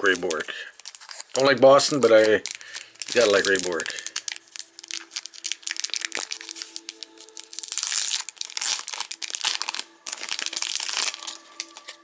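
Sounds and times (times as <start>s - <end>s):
plastic wrapper crinkling and tearing: 0.0s - 12.0s.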